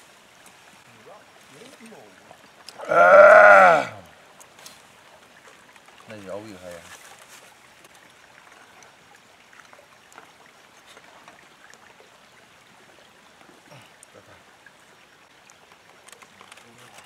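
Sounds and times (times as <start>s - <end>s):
creek water running: 0.0s - 17.0s.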